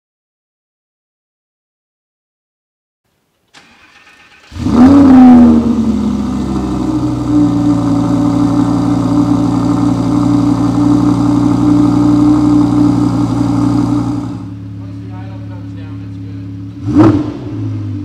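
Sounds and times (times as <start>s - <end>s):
car engine starting and idling: 3.4s - 18.0s.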